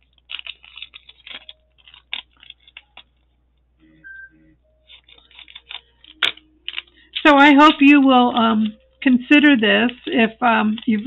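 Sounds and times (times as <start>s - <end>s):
plastic packaging crinkling: 0.0s - 3.7s, 4.6s - 11.0s
small items clicking on metal tray: 0.1s - 3.1s, 4.9s - 11.0s.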